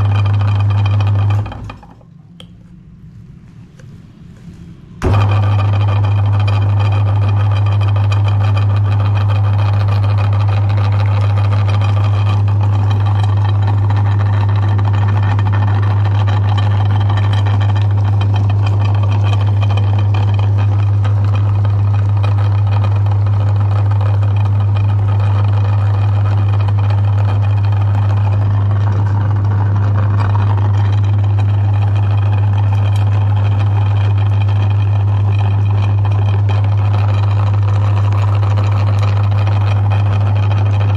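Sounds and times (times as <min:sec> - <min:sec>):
meat grinder motor running: 0:00.0 - 0:02.0, 0:05.0 - 0:40.9.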